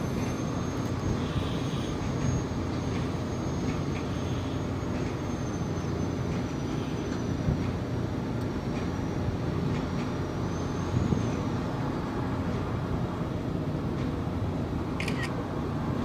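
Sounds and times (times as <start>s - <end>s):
boat engine low rumble: 0.0s - 16.0s
faint high engine whine: 0.0s - 16.0s.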